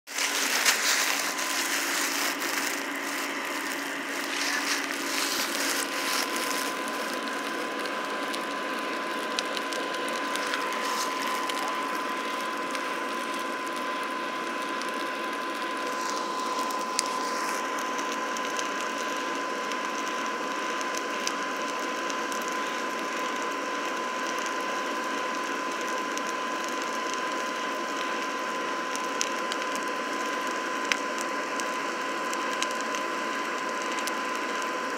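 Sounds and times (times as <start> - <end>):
forge blower whirring: 0.1 - 34.9.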